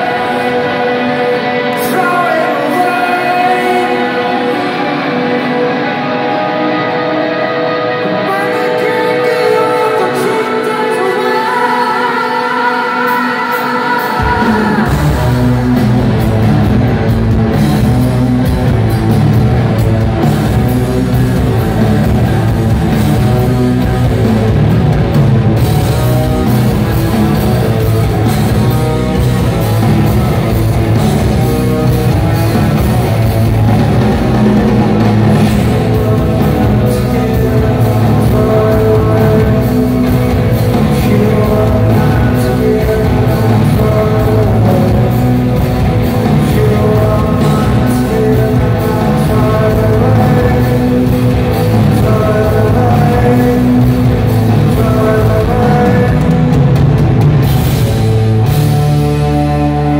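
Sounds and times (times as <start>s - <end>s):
electric guitar: 0.0s - 59.9s
person singing over rock band: 0.0s - 59.9s
bass and drums: 8.2s - 59.9s.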